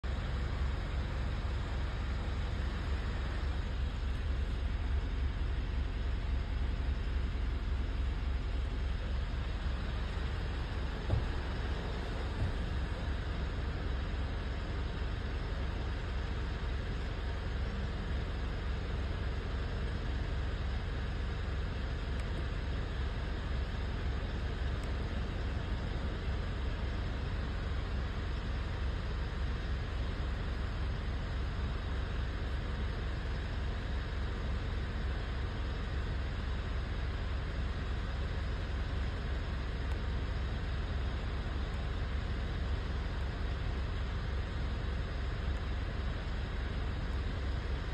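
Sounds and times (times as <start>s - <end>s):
engine running with pulsing rumble: 0.0s - 47.9s.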